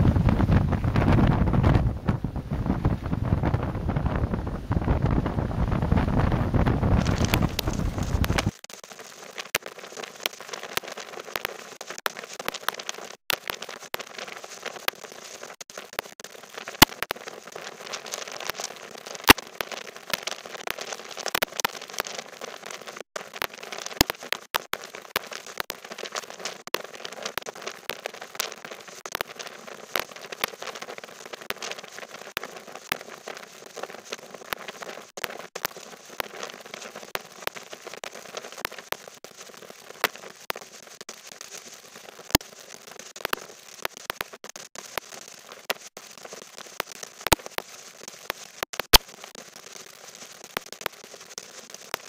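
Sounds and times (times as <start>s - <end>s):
rain pattering on microphone: 0.0s - 52.0s.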